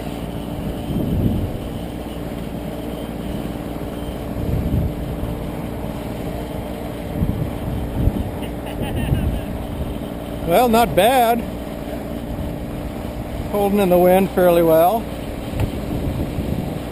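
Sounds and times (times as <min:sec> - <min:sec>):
drone propellers humming: 0:00.0 - 0:16.9
wind buffeting microphone: 0:00.4 - 0:13.6, 0:15.0 - 0:16.9.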